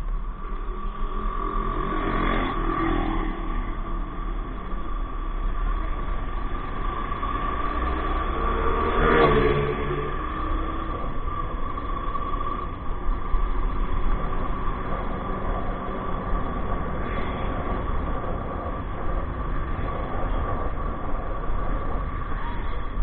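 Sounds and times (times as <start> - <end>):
drivetrain whine: 0.0 - 23.0
engine rumble: 0.0 - 23.0.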